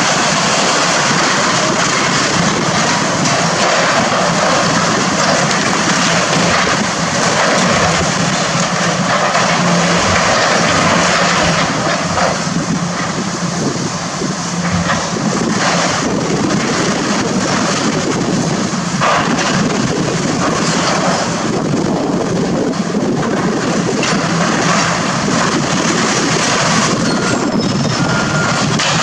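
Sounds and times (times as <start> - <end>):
diesel engine running: 0.0 - 29.0
falling debris crashing: 0.0 - 29.0.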